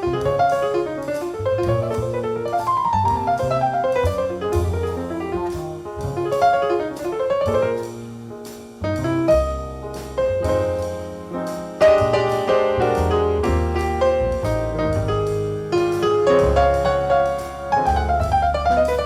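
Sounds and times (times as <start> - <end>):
jazzy piano: 0.0 - 19.0
light drums: 0.0 - 19.0
walking bass: 0.0 - 19.0.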